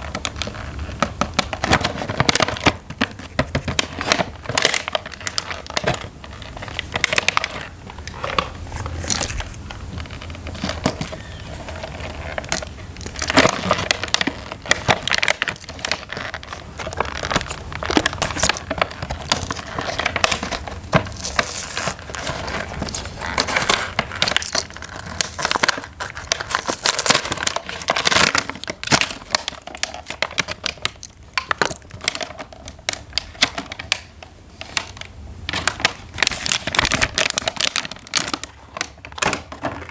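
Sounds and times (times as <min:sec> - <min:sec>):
packaging crinkling: 0:00.0 - 0:39.9.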